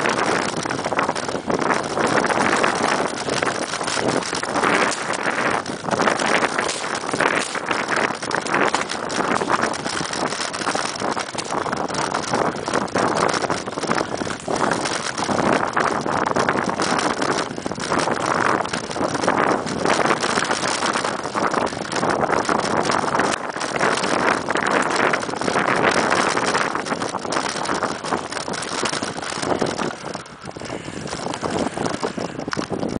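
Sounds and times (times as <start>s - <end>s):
bike rattling over rough ground: 0.0s - 33.0s
tyre noise: 0.0s - 33.0s
wind on microphone: 0.0s - 33.0s.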